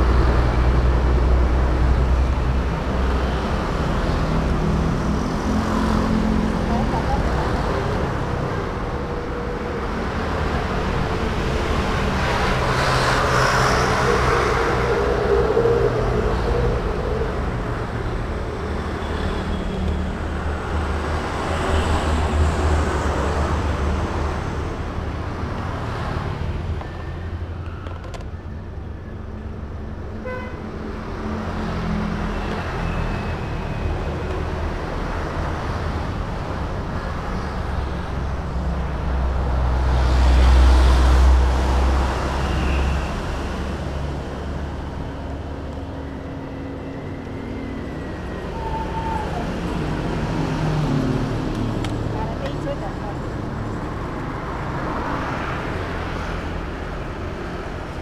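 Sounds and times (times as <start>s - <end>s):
motorbikes and cars passing: 0.0s - 27.6s, 28.7s - 58.0s.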